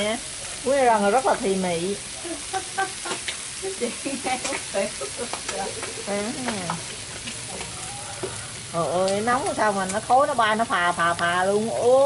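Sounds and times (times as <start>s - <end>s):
oil sizzling with fish frying: 0.0s - 12.0s
oil popping: 2.0s - 12.0s.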